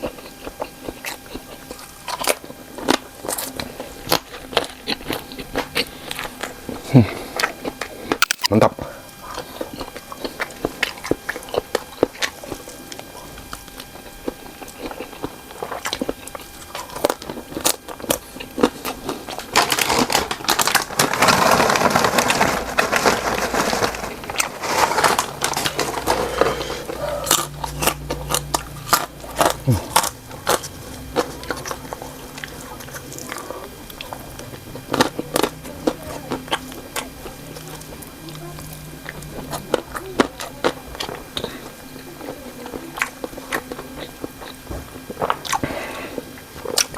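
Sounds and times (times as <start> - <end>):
biting and wet chewing: 0.0 - 8.6, 9.2 - 46.9.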